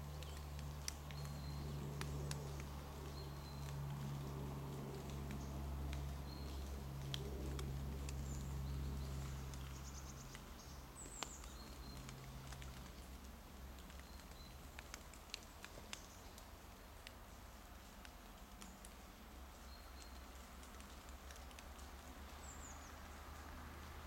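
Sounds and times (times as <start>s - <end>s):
low steady rumble: 0.0s - 24.0s
paws rustling dry leaves: 0.0s - 24.0s.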